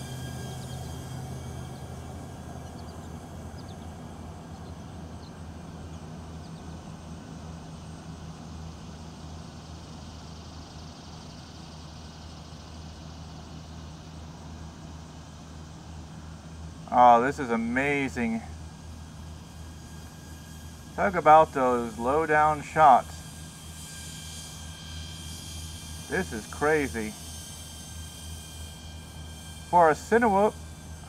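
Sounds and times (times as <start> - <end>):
drone propellers whining: 0.0 - 31.0
steady low hum with hiss: 0.0 - 31.0.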